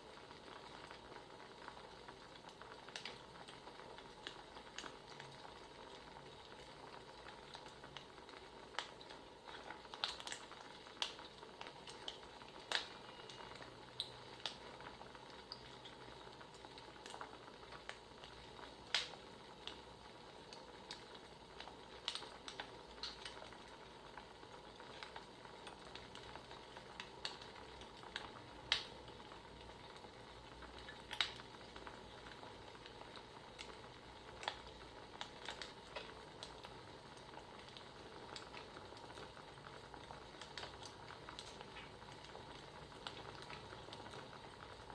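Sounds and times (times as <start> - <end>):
soft steady hiss: 0.0 - 44.9
wood fire crackling: 0.0 - 44.9.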